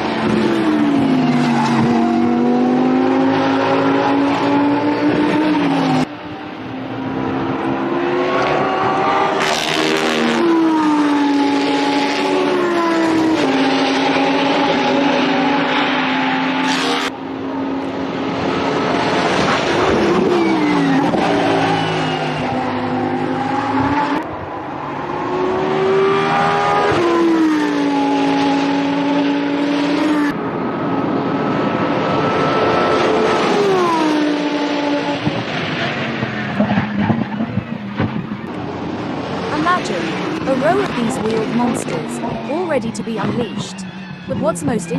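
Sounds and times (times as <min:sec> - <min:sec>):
race car engine at high revs: 0:00.0 - 0:44.9.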